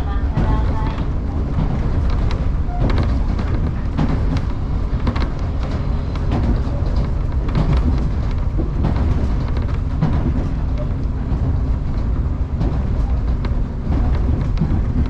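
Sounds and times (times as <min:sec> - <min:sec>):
train interior rumble: 0:00.0 - 0:15.0
wheels clattering over rails: 0:00.0 - 0:15.0.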